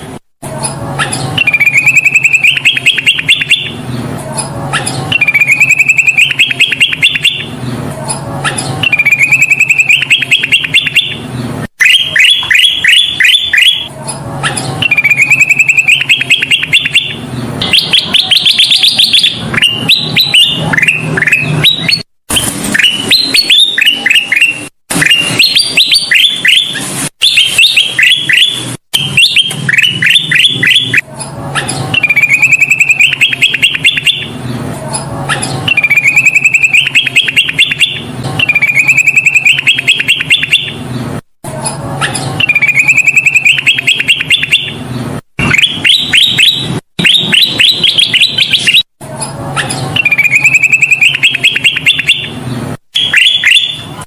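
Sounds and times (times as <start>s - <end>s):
bulbul singing rapid chattering notes: 0.0s - 41.2s, 41.9s - 48.9s, 49.5s - 54.0s.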